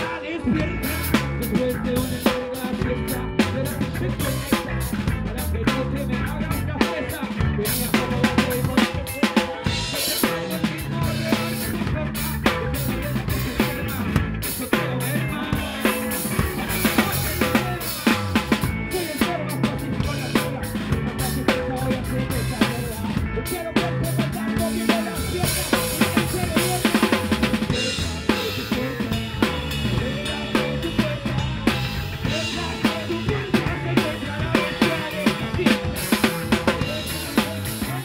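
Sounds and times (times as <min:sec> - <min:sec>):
bass guitar: 0:00.0 - 0:38.0
drums: 0:00.0 - 0:38.0
live band playing: 0:00.0 - 0:38.0.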